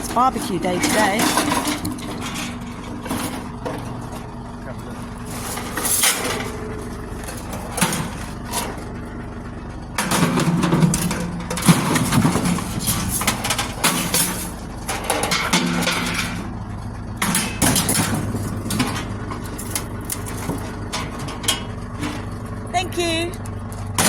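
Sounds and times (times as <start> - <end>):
scrap metal clanking and rattling: 0.0 - 24.0
truck engine idling: 0.0 - 24.0.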